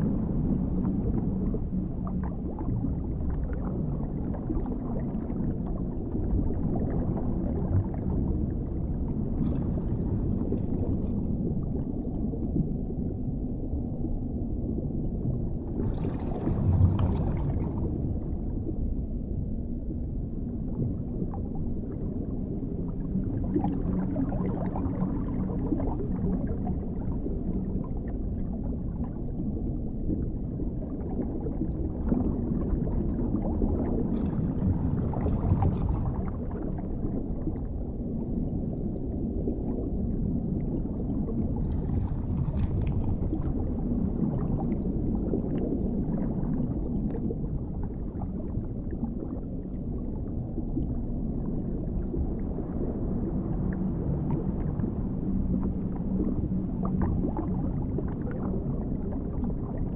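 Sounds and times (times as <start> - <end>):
muffled underwater rumble: 0.0 - 59.9.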